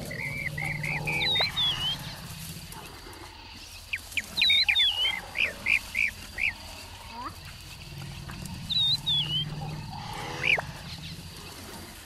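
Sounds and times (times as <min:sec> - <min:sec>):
birds singing: 0:00.0 - 0:12.0
elephant low rumble: 0:00.0 - 0:12.0.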